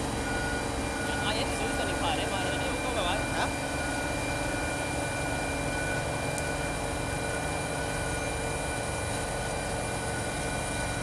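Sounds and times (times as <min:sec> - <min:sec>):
wood chipper engine drone: 0:00.0 - 0:11.0.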